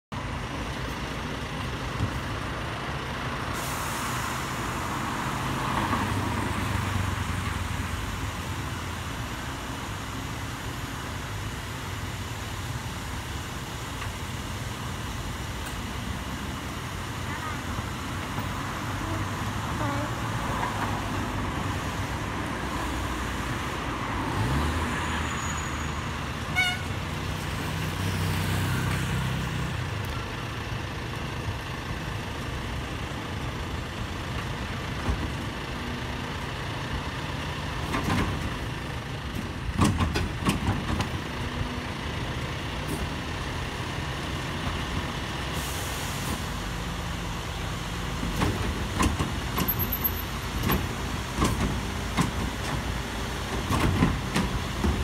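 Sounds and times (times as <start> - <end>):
traffic passing: 0.1 - 55.0
garbage truck engine hum: 0.2 - 55.0.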